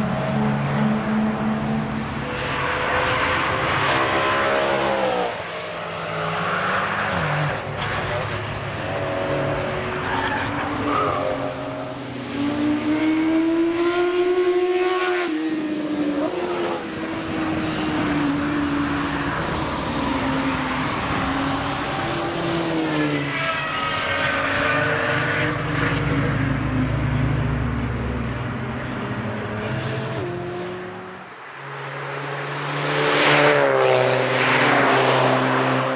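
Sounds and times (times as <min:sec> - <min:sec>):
racing car engines revving: 0:00.0 - 0:35.9.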